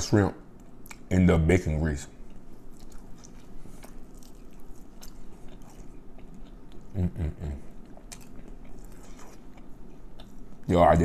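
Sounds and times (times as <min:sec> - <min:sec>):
chewing crunchy food: 0:00.6 - 0:01.1, 0:02.2 - 0:10.7.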